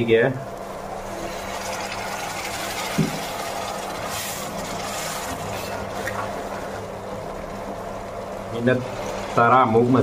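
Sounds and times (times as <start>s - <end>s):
water sizzling in a hot pot: 0.8s - 10.0s.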